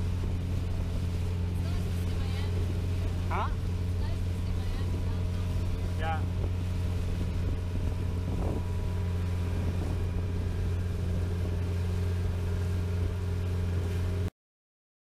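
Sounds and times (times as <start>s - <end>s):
motorboat engine running: 0.0s - 14.3s
wind and water rushing: 0.0s - 14.3s.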